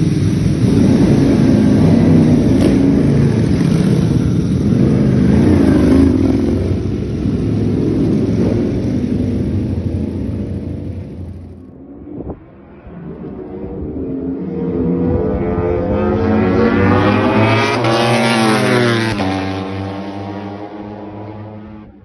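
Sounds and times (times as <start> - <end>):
motorcycle engine running hard: 0.0 - 11.8, 12.7 - 22.0.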